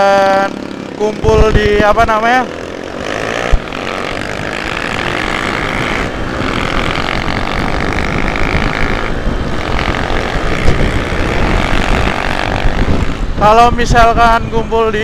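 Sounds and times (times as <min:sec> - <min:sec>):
dirt bike engine running: 0:00.0 - 0:15.0
wind rushing over microphone: 0:00.0 - 0:15.0.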